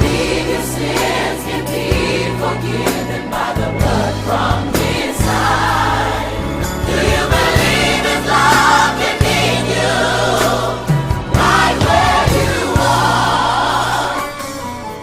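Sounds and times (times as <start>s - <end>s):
choir singing: 0.0s - 15.0s
instrumental backing with bass: 0.0s - 15.0s.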